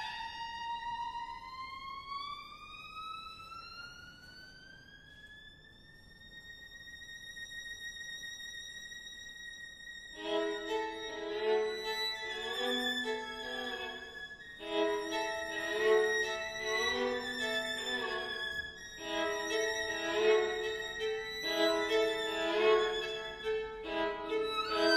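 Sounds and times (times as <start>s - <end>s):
violin duo: 0.0s - 2.4s, 3.3s - 24.9s.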